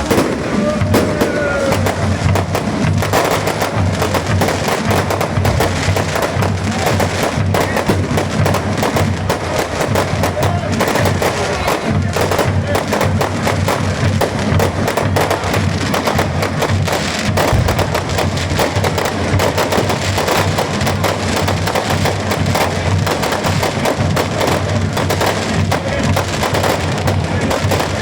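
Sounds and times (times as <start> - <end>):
fireworks bangs and crackling: 0.0 - 28.0
music: 0.0 - 28.0.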